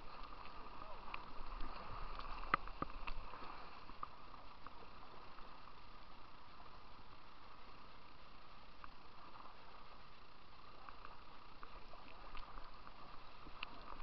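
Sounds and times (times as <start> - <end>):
moving water hiss: 0.0 - 14.0.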